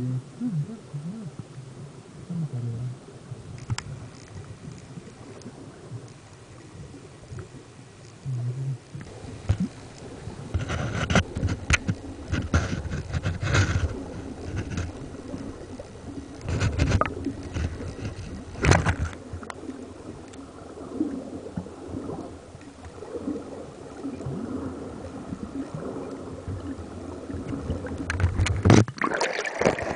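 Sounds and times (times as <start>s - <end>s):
underwater water rumble: 0.0s - 29.9s.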